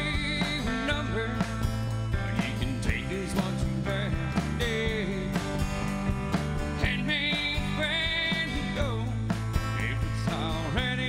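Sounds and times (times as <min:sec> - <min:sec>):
man singing lead: 0:00.0 - 0:05.8, 0:06.7 - 0:11.0
live band playing: 0:00.0 - 0:11.0.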